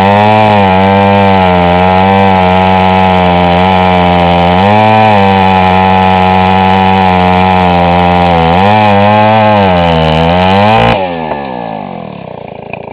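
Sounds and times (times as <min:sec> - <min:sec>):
chainsaw running at high revs: 0:00.0 - 0:12.9.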